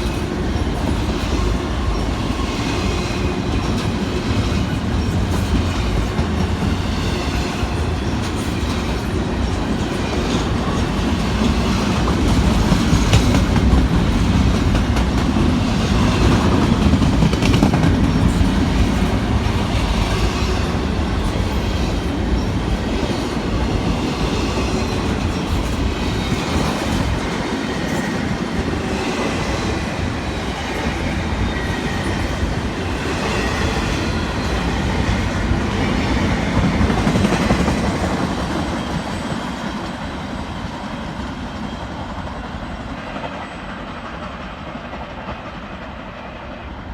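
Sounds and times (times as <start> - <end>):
train wheels clattering over rails: 0.0 - 46.6.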